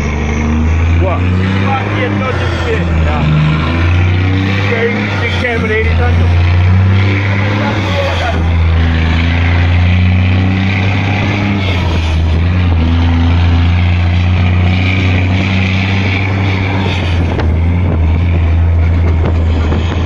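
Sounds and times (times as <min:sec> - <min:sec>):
truck diesel engine droning: 0:00.0 - 0:20.0
wind and road rush: 0:00.0 - 0:20.0.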